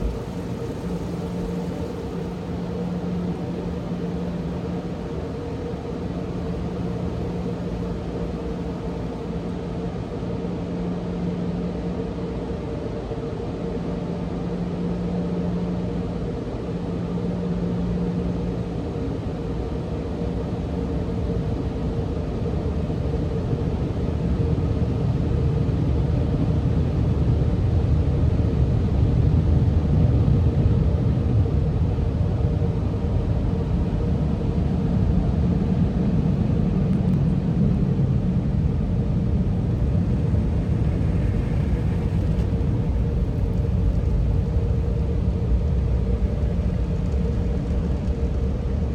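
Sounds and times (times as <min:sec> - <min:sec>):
faint steady hum: 0:00.0 - 0:48.9
low rumble and hiss in car: 0:00.0 - 0:48.9.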